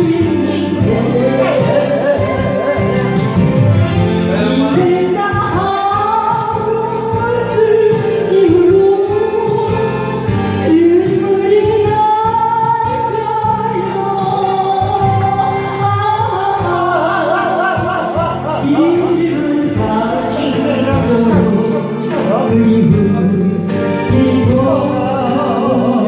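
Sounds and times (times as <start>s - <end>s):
instrumental backing track: 0.0s - 26.0s
woman singing a ballad: 0.0s - 26.0s.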